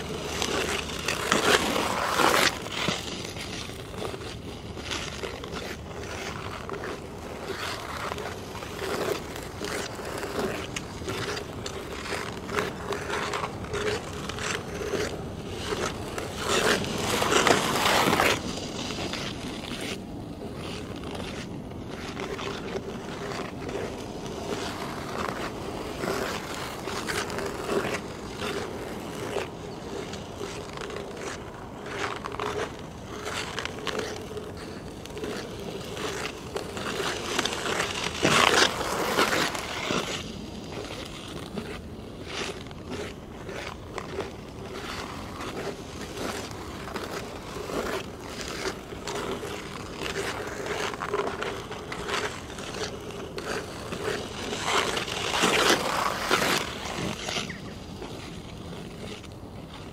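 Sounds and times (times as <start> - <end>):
ice skates scraping ice: 0.0 - 59.9.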